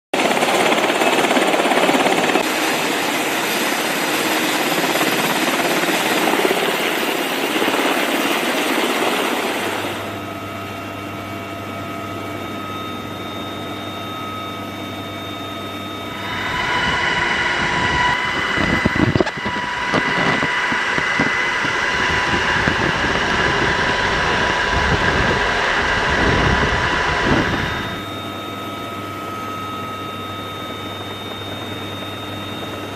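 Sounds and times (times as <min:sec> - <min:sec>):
helicopter engine and rotor: 0:00.1 - 0:32.9.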